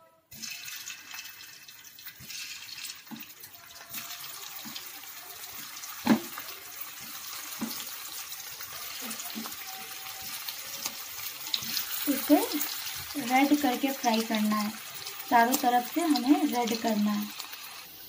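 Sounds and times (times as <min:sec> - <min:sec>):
food sizzling in hot oil: 0:00.3 - 0:18.0.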